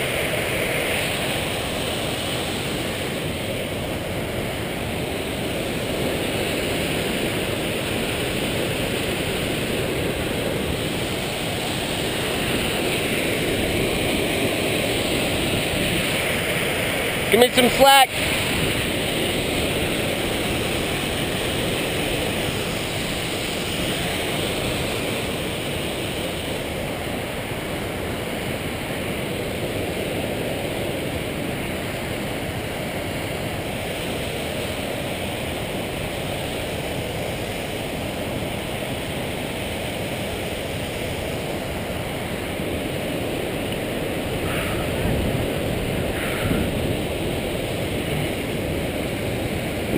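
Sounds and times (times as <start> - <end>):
water rushing over rocks: 0.0 - 49.9.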